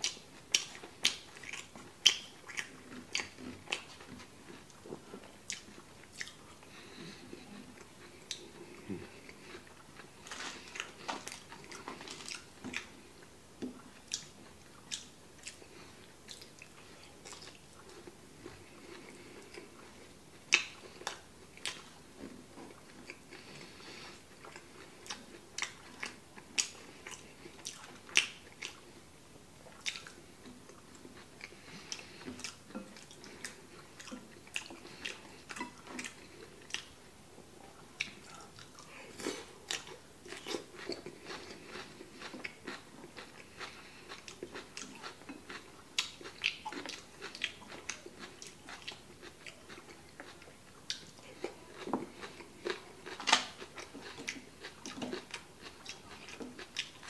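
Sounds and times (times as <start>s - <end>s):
man chewing and biting food: 0.0s - 28.9s, 29.6s - 37.0s, 38.0s - 57.0s.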